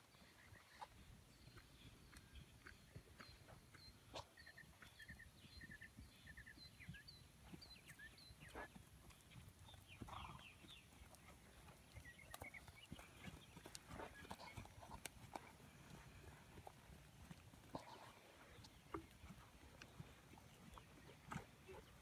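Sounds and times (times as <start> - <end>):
horse hoofbeats on sand: 1.5 - 22.0.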